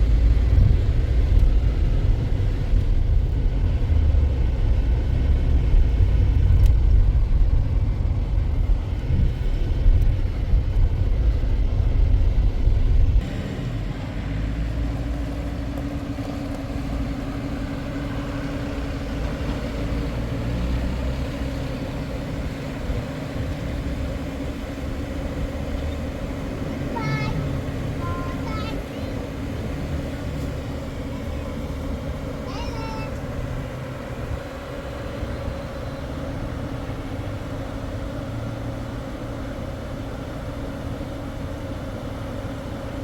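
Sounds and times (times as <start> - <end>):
motor vehicle engine rumble: 0.0 - 43.0.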